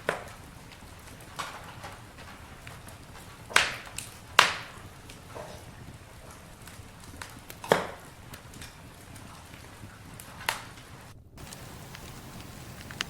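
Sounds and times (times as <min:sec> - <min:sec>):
campfire crackling: 0:00.0 - 0:13.0
loud sharp pops of fire: 0:00.0 - 0:13.0
soft steady hiss: 0:00.0 - 0:13.0.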